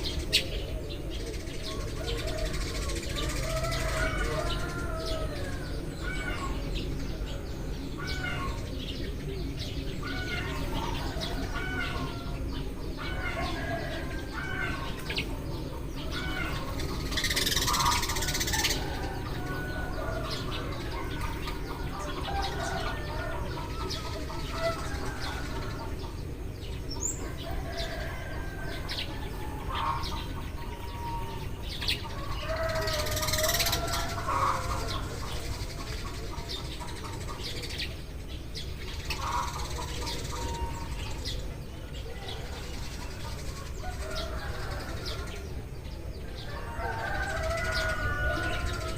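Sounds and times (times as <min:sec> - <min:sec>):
sparrows chirping: 0:00.0 - 0:48.9.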